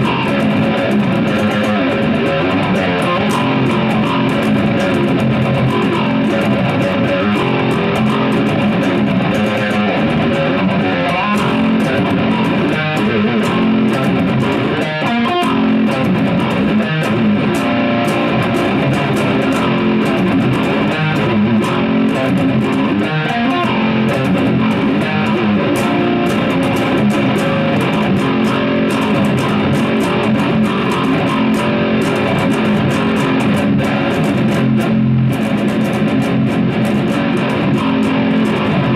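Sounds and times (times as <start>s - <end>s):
loud electric guitar: 0.0s - 38.9s.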